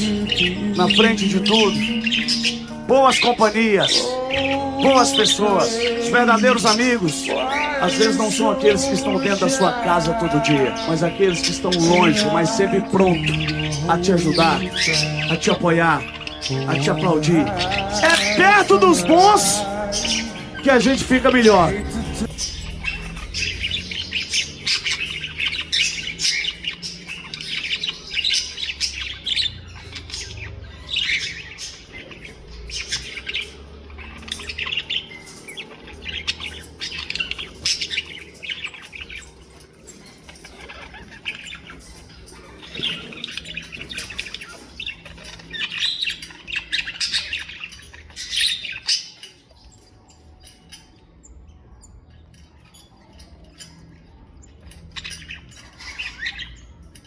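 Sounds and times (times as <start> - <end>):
birds chirping and squawking: 0.0 - 57.0.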